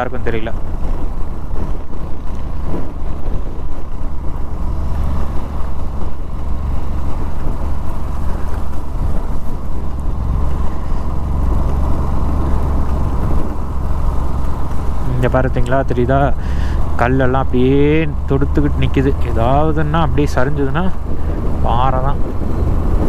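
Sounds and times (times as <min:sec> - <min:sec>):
motorcycle engine rumble: 0:00.0 - 0:23.0
road noise: 0:00.0 - 0:23.0.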